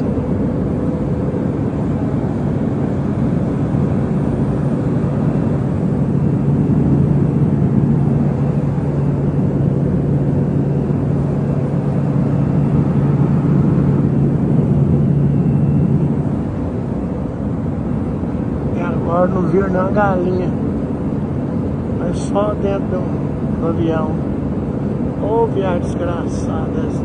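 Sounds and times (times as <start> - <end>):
jet cabin engine and airflow drone: 0.0 - 27.0.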